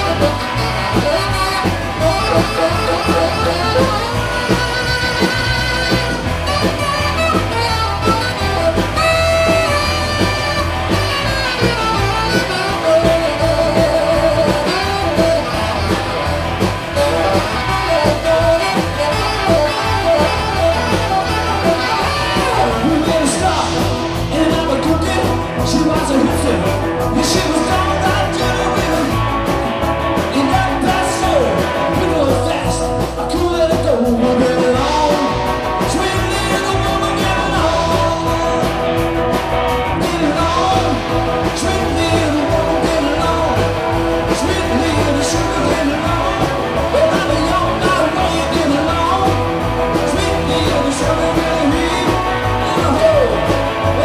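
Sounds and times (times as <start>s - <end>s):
rock and roll band playing: 0.0s - 54.0s.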